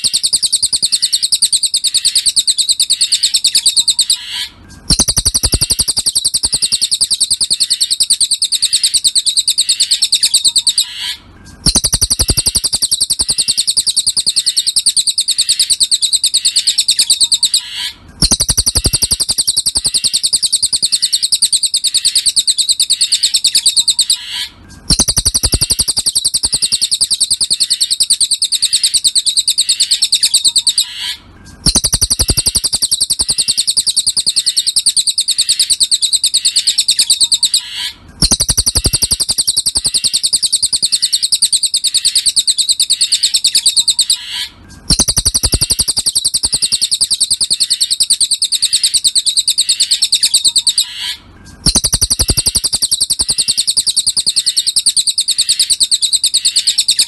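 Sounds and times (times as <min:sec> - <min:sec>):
songbird high-pitched trill: 0:00.0 - 0:57.0.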